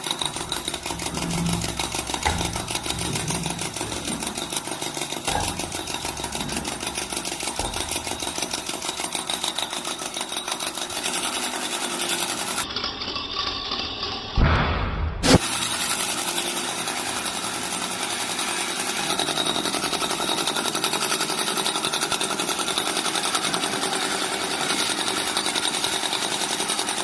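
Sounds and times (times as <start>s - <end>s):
small motor rattling: 0.0s - 14.4s, 15.4s - 27.0s.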